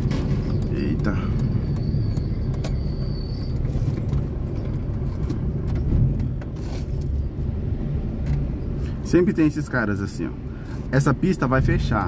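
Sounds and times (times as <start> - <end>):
engine and road rumble in car: 0.0 - 12.0.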